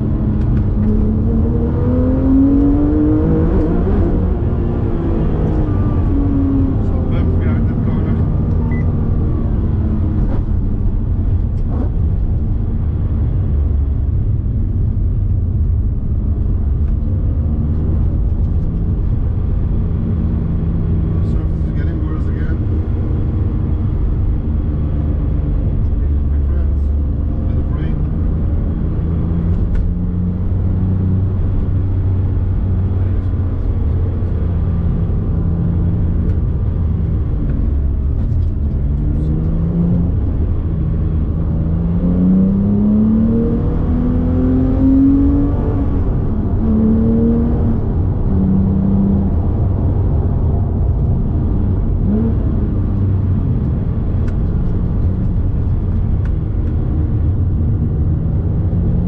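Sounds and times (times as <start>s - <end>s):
car engine droning in cabin: 0.0s - 59.0s.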